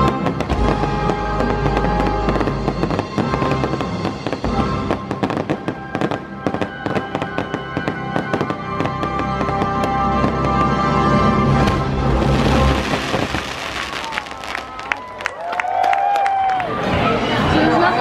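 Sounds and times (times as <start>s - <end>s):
music playing: 0.0s - 15.5s
fireworks bursting and crackling: 0.0s - 16.4s.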